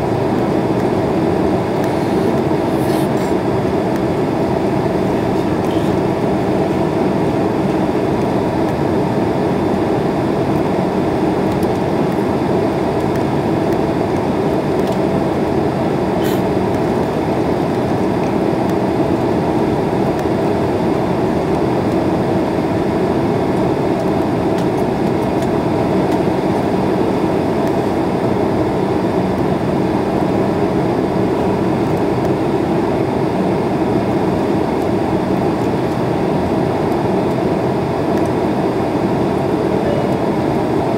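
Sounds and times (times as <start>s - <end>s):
jet engines and airflow rushing: 0.0s - 40.9s.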